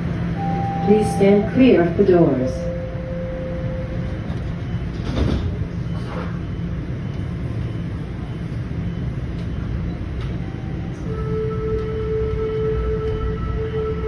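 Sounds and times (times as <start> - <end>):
subway car equipment hum: 0.0 - 14.0.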